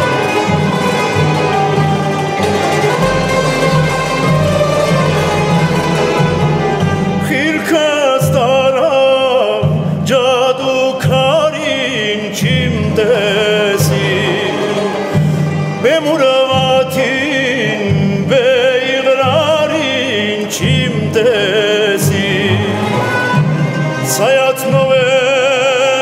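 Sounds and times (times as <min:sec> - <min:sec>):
folk string orchestra: 0:00.0 - 0:26.0
man singing with vibrato: 0:02.8 - 0:26.0.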